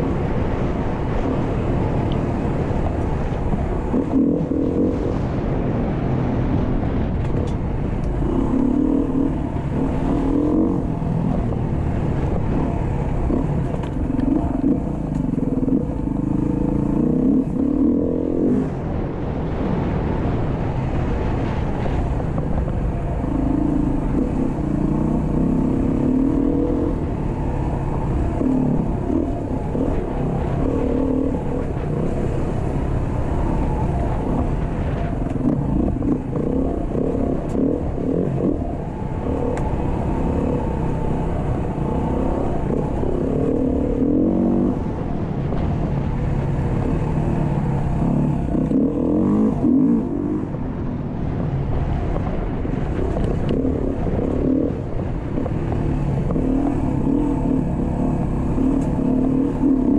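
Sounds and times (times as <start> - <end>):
motorcycle engine revving: 0.0 - 5.4, 7.4 - 18.8, 20.2 - 50.8, 51.9 - 59.9.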